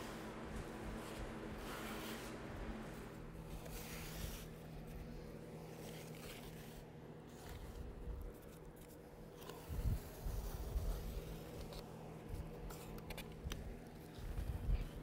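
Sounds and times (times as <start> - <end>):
brushes scratching on floor: 0.0 - 14.5.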